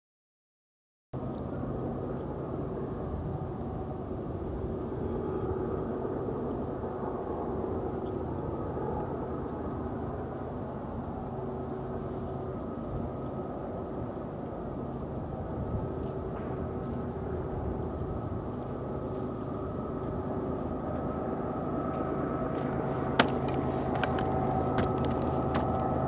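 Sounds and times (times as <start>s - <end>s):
distant diesel locomotives droning: 1.2s - 26.0s.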